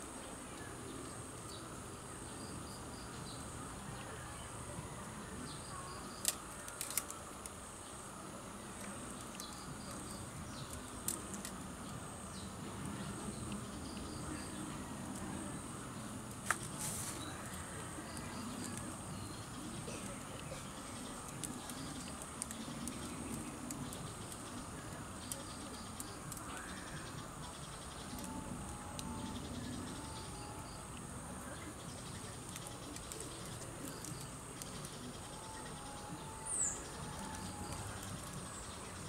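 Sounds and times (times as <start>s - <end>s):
insects chirping: 0.0s - 39.0s.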